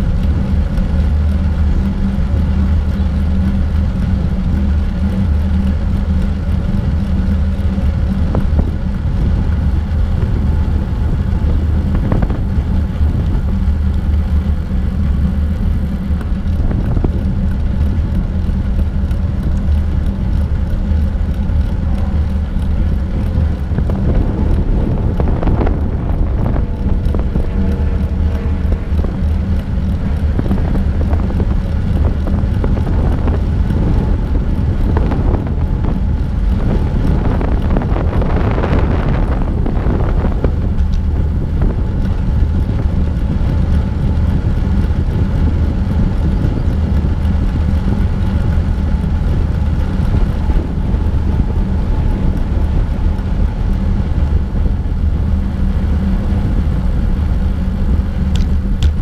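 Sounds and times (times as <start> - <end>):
tyres rolling on asphalt: 0.0 - 59.0
wind rumbling over microphone: 0.0 - 59.0.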